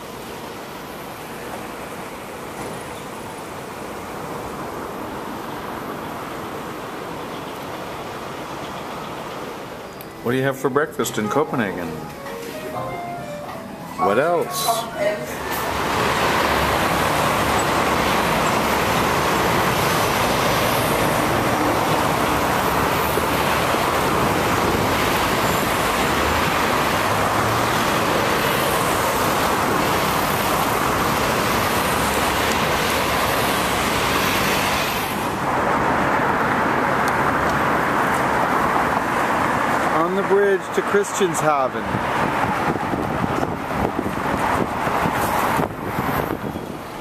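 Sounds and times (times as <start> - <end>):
tyres hissing on wet road: 0.0 - 10.4, 14.6 - 47.0
dull outdoor noise: 0.0 - 47.0
road traffic passing: 0.0 - 47.0.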